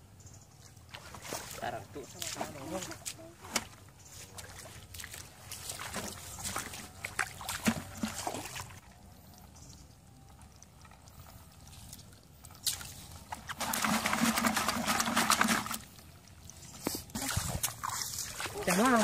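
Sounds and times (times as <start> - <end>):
water sloshing: 0.5 - 19.0
clatter and rustle in bucket: 1.0 - 8.8, 10.8 - 16.0, 16.6 - 19.0.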